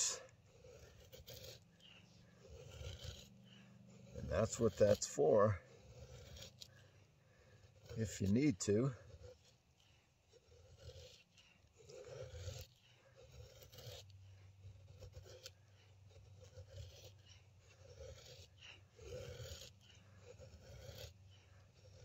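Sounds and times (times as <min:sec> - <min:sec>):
machete scraping wood: 0:00.0 - 0:22.0.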